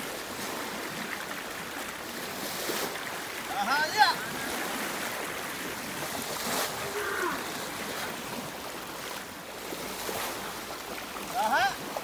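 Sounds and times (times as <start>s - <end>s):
shallow river rushing: 0.0s - 12.0s.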